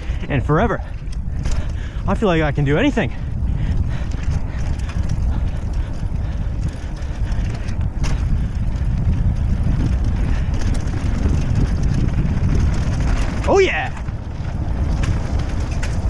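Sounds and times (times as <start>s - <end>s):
bike rattling: 0.0s - 16.0s
bike tyres rolling on dirt: 0.0s - 16.0s
wind buffeting microphone: 0.0s - 16.0s.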